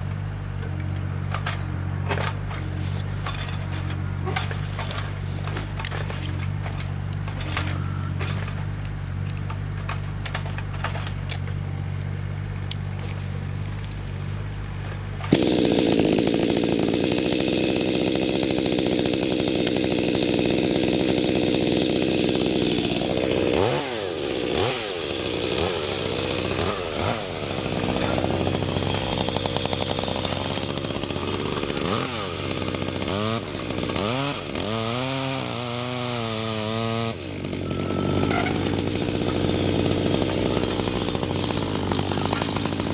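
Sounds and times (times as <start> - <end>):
chainsaw cutting wood: 0.8 - 11.6, 12.7 - 42.9.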